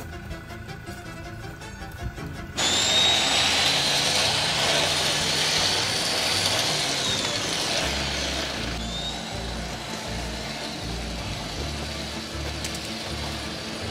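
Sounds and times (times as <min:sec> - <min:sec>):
small electric motor whining: 0:02.6 - 0:13.9.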